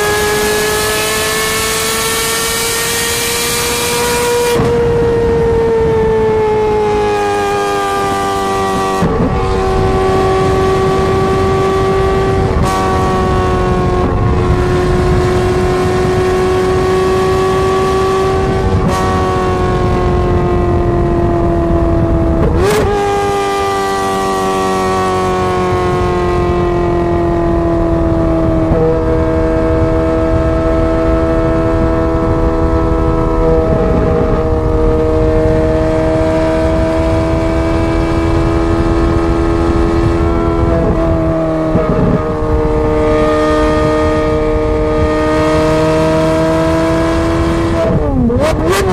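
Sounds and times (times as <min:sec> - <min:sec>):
sports car engine driving: 0:00.0 - 0:48.9.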